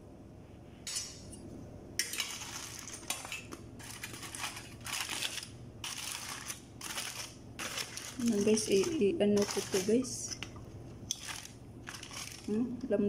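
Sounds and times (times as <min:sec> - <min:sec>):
aluminium foil crinkling: 0:02.0 - 0:12.9.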